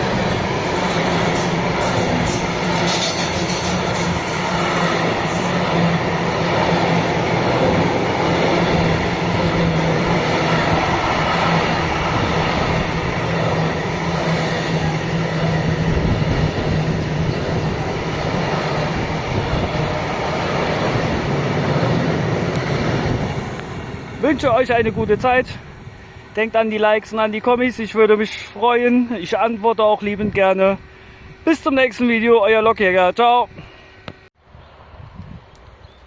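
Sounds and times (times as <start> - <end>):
train wheels rumbling on rails: 0.0 - 29.4.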